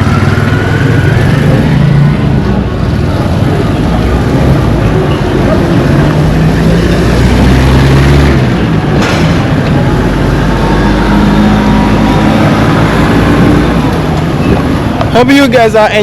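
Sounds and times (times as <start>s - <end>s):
vehicle engine running: 0.0s - 15.2s
road and wind noise: 0.0s - 16.0s.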